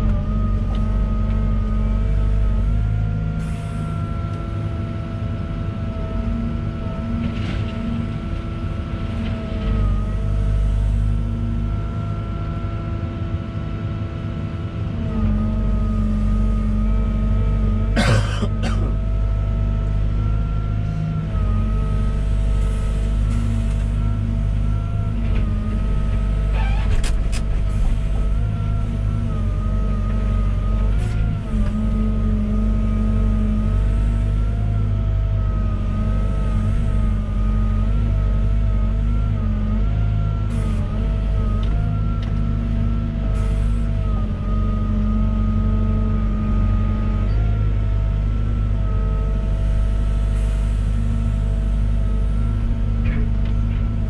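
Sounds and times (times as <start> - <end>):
excavator engine and hydraulics whine: 0.0 - 54.0.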